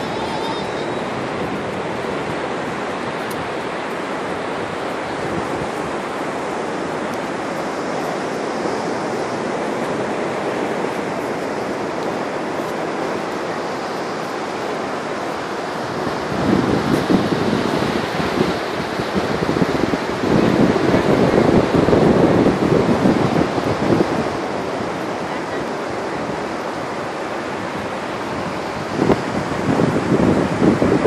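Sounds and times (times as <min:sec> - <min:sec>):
surf washing onto beach: 0:00.0 - 0:31.0.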